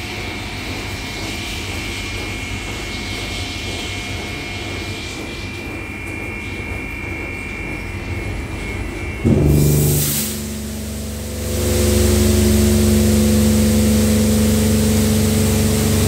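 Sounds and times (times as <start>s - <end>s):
car wash blower dryer: 0.0s - 16.0s
high fan whine: 0.0s - 16.0s.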